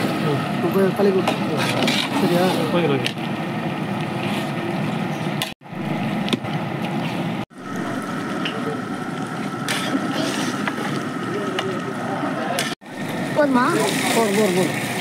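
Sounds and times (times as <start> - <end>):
pot boiling over fire: 0.0 - 15.0.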